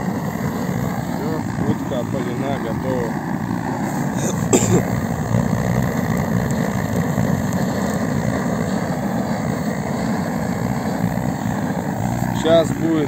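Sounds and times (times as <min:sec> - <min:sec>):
blowtorch burning: 0:00.0 - 0:13.0.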